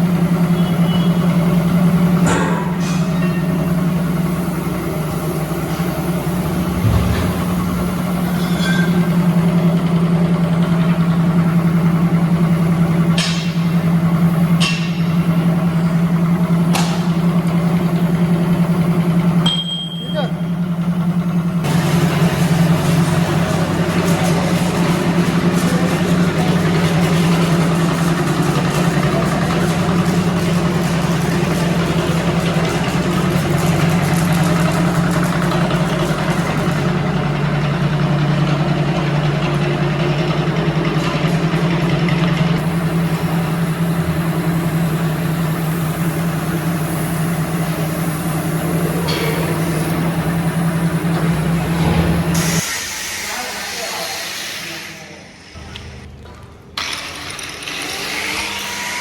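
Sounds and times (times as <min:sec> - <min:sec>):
air compressor humming: 0:00.0 - 0:59.0.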